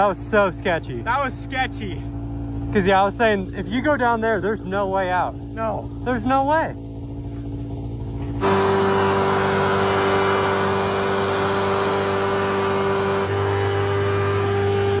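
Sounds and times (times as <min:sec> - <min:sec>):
hovercraft engine and fan drone: 0:00.0 - 0:15.0.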